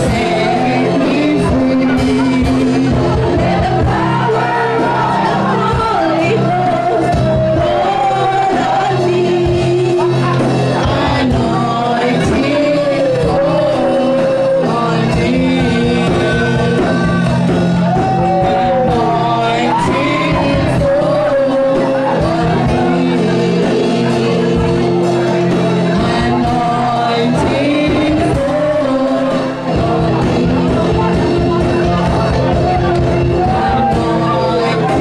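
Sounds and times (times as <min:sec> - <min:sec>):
voices singing and shouting: 0:00.0 - 0:35.0.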